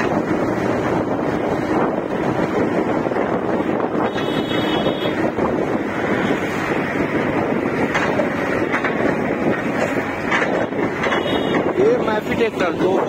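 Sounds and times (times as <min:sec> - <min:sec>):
engine and road noise: 0:00.0 - 0:13.0
wind buffeting microphone: 0:00.0 - 0:13.0.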